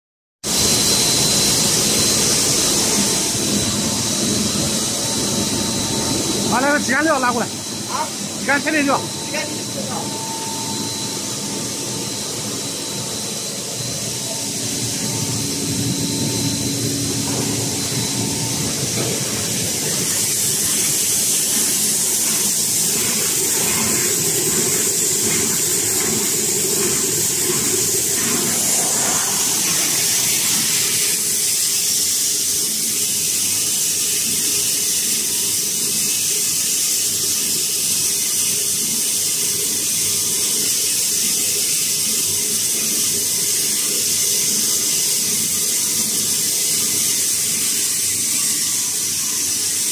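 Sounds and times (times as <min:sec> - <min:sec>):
loud hiss of machinery: 0:00.5 - 0:49.9.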